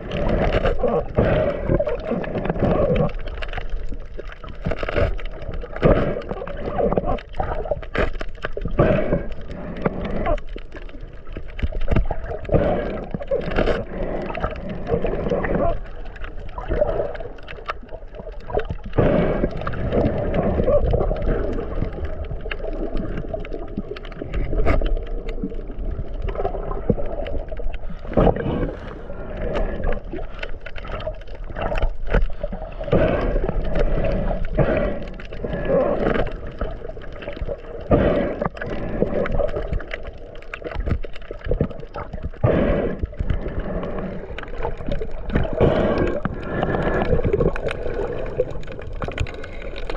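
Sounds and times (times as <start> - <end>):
water gurgling and sloshing: 0.0 - 49.9
water splashes: 0.0 - 49.9.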